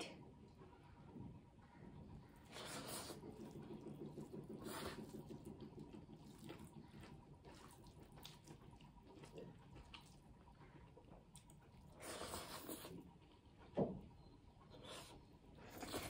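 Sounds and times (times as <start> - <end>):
chewing with wet clicks: 2.2 - 16.0.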